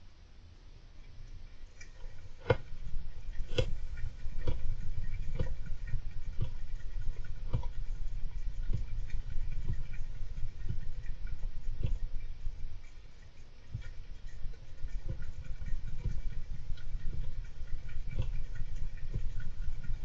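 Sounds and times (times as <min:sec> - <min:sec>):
low rumble: 0:01.1 - 0:20.0.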